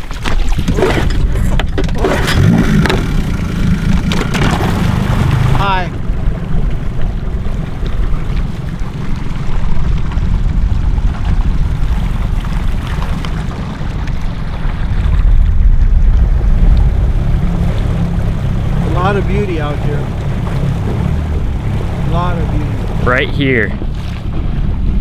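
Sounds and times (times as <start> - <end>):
outboard motor rumbling: 0.0 - 25.0
wind buffeting microphone: 0.0 - 25.0.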